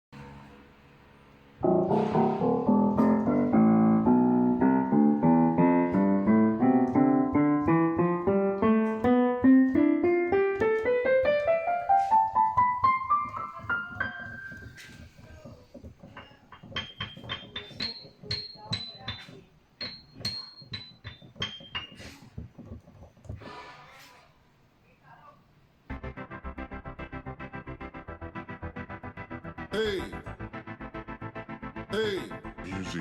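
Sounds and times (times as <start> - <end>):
keyboard piano notes climbing: 0.2 - 23.3, 25.9 - 33.0.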